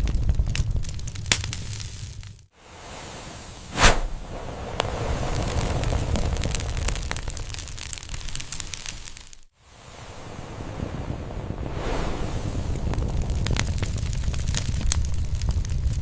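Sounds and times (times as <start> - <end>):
fire burning and crackling: 0.0 - 16.0
flames whooshing: 0.1 - 16.0.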